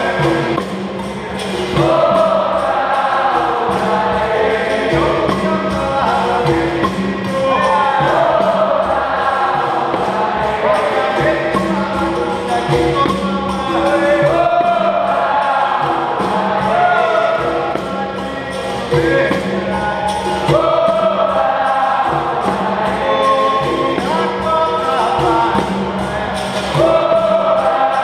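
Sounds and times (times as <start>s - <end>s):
berimbaus and percussion: 0.0s - 28.0s
group of voices singing: 0.0s - 28.0s.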